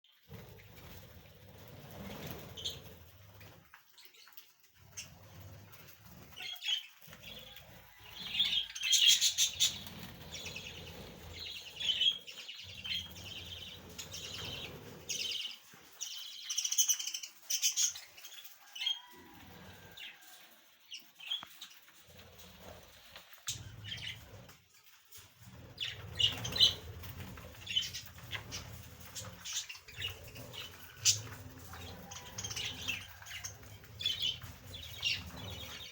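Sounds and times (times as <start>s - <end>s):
small birds chirping: 0.0s - 35.9s
wings flapping: 0.2s - 20.5s, 21.3s - 35.9s.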